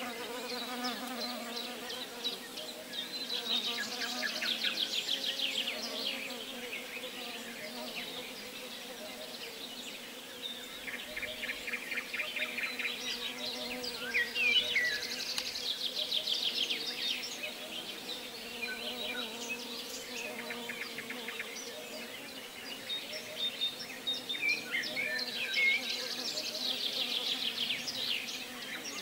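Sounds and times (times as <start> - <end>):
birds singing: 0.0 - 29.0.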